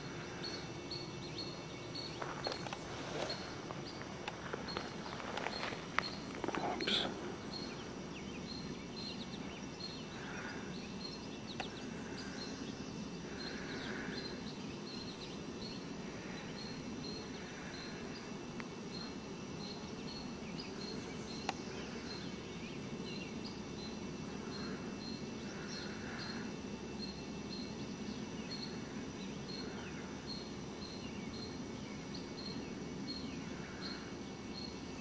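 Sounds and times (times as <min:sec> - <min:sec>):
background hiss and rumble: 0:00.0 - 0:35.0.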